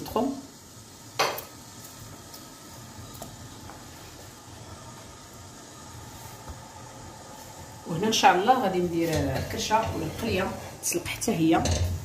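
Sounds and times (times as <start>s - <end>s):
water heating in a pot: 0.0s - 12.0s.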